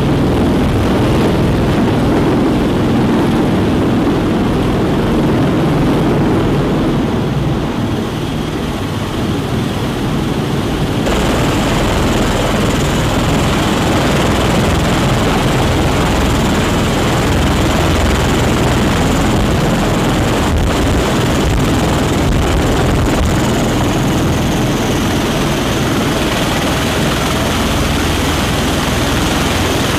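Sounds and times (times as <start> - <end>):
tiltrotor aircraft hovering loudly: 0.0 - 29.9.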